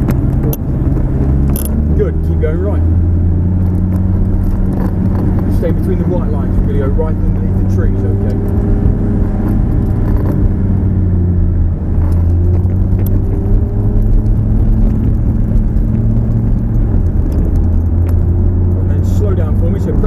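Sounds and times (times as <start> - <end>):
car engine drone: 0.0 - 20.0.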